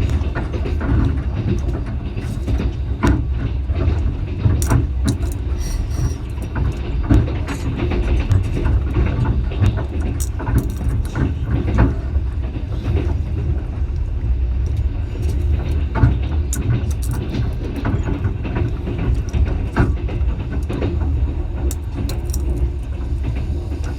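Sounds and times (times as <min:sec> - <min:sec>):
train rumbling on rails: 0:00.0 - 0:23.9
wheels clicking and rattling: 0:00.0 - 0:23.9.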